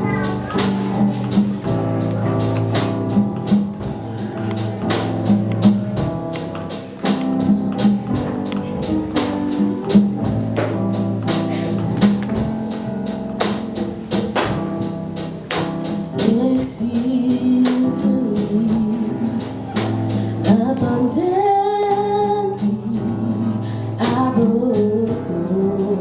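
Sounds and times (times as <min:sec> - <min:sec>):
gospel band playing: 0:00.0 - 0:26.0.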